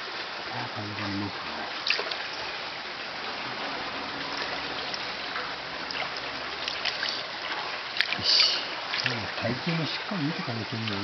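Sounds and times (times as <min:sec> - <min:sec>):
running water trickling: 0:00.0 - 0:11.0
small water splashes: 0:00.0 - 0:11.0.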